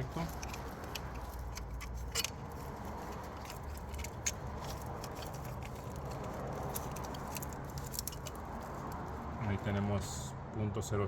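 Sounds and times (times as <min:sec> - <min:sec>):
connector clicking and rattling: 0:00.0 - 0:09.2.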